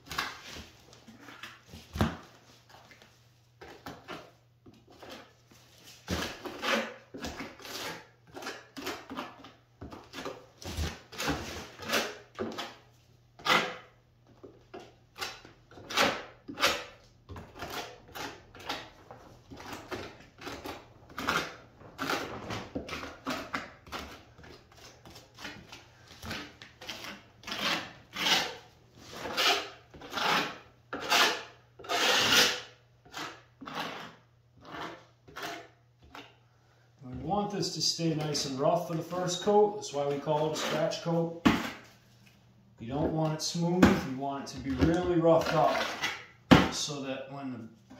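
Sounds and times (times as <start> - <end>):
trowel scraping plaster: 3.6 - 36.4, 38.1 - 42.0, 42.9 - 46.9.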